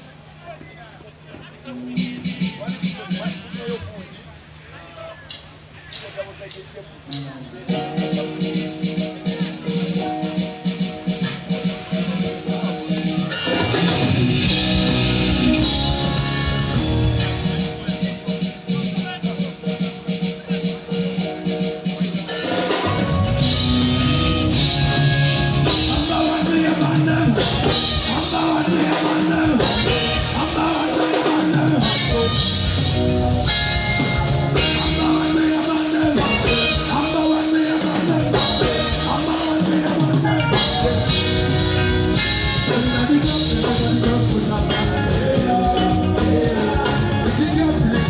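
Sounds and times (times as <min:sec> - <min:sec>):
loud band music: 0:01.7 - 0:04.2, 0:07.0 - 0:48.0.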